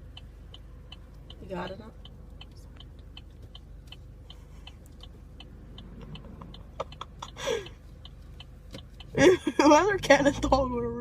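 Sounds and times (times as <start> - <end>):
steady clock-like ticking: 0.0 - 10.4.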